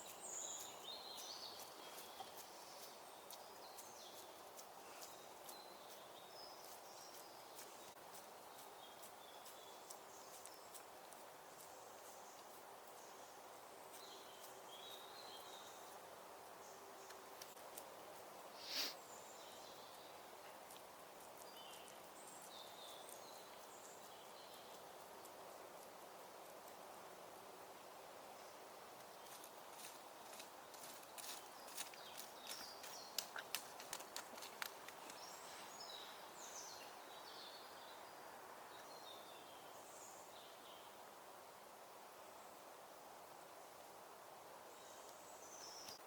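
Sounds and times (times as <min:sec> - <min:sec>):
small birds chirping: 0:00.0 - 0:26.8, 0:28.4 - 0:41.0, 0:44.7 - 0:46.0
low hiss: 0:00.0 - 0:30.6, 0:34.9 - 0:46.0.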